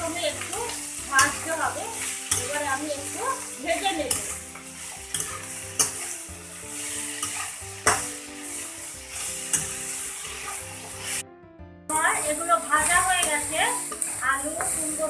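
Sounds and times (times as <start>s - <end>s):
food sizzling in oil: 0.0s - 11.2s, 11.9s - 15.0s
spatula scraping a pan: 0.0s - 11.2s, 12.0s - 15.0s.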